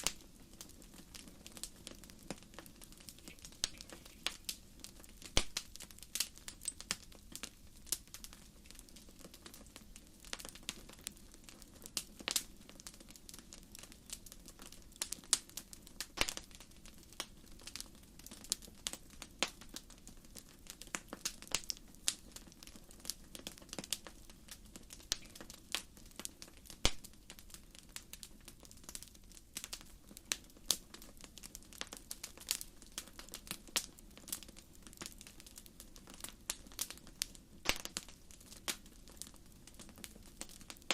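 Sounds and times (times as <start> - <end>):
logs crackling and popping: 0.0 - 40.9.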